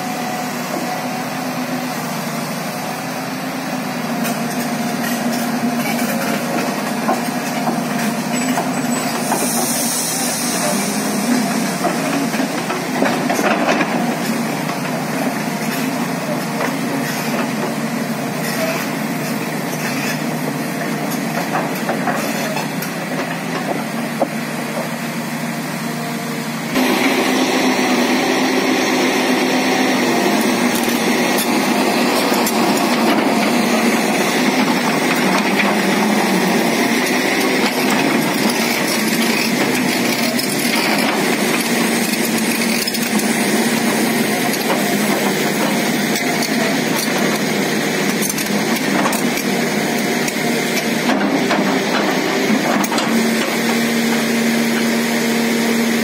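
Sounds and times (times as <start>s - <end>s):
diesel engine running: 0.0s - 56.0s
crawler tracks grinding on gravel: 4.1s - 56.0s.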